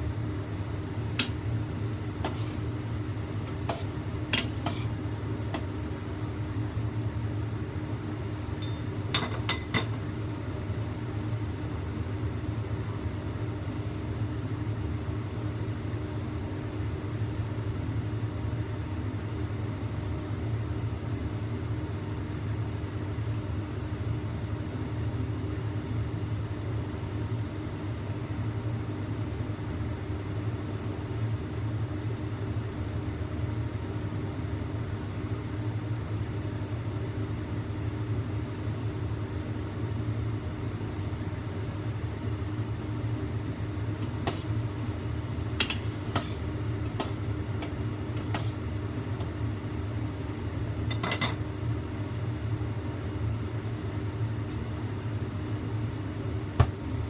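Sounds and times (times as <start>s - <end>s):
steady hum: 0.0s - 17.7s, 28.3s - 57.0s
gas burner rumble: 0.0s - 57.0s.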